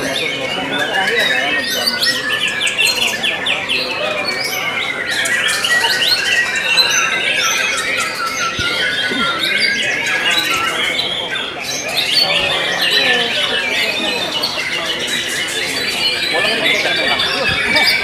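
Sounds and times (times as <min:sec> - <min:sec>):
many songbirds singing: 0:00.0 - 0:18.0.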